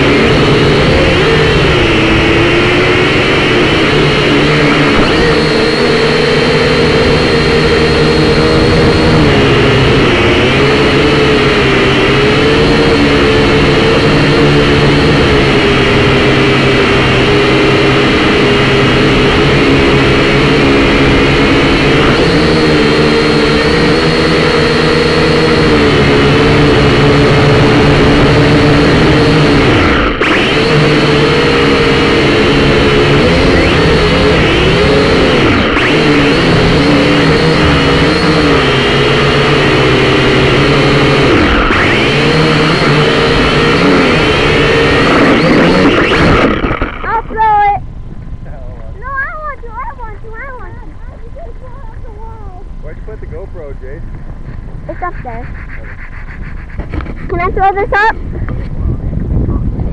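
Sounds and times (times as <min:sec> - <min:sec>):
drone motors and propellers buzzing: 0:00.0 - 0:59.9.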